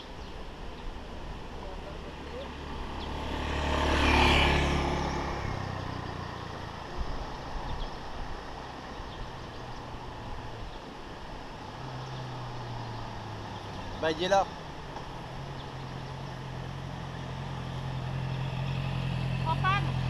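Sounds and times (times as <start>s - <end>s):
traffic engine hum: 0.0s - 20.0s
vehicle passing close by: 2.0s - 20.0s.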